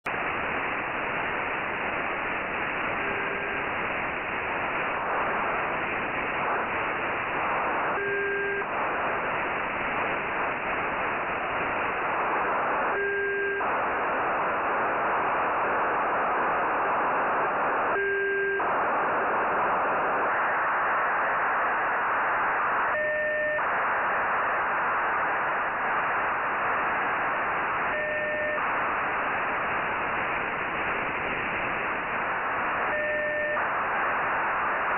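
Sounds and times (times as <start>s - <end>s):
radio receiver hiss: 0.1s - 34.9s.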